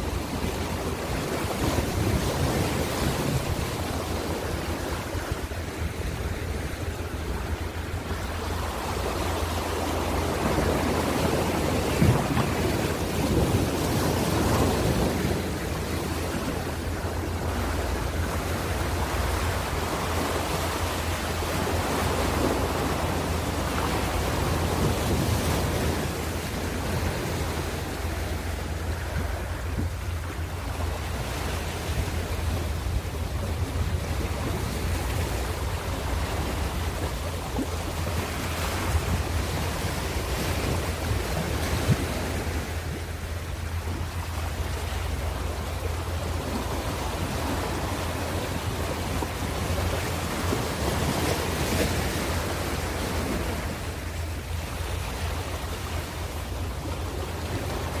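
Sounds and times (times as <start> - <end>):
low wind rumble: 0.0 - 58.0
ocean waves breaking on shore: 0.0 - 58.0.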